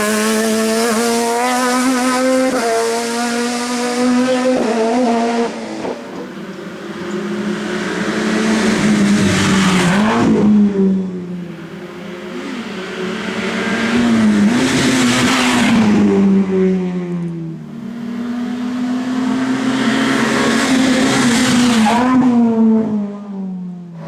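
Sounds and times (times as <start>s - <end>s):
race car engine revving: 0.0s - 17.1s, 17.7s - 22.9s.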